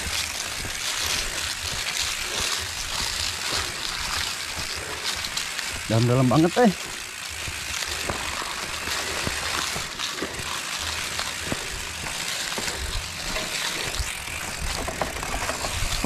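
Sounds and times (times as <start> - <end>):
bike knocking and rattling: 0.0 - 16.0
bike tyres rushing on dirt: 0.0 - 16.0.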